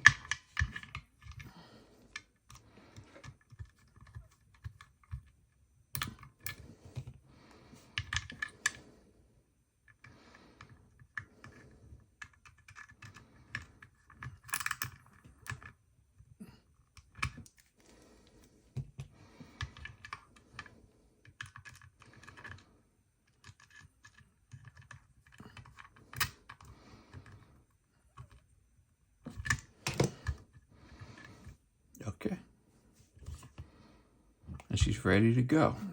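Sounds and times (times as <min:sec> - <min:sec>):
small parts clicking and rustling: 0:00.0 - 0:07.2, 0:07.8 - 0:08.9, 0:09.8 - 0:28.6, 0:29.2 - 0:31.6.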